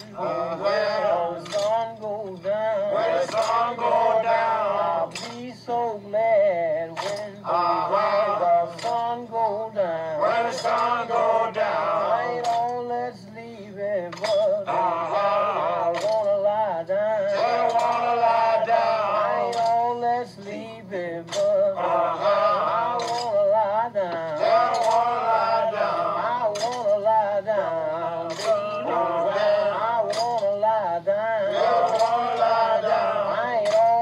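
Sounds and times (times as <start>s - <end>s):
men singing a work song: 0.0s - 34.0s.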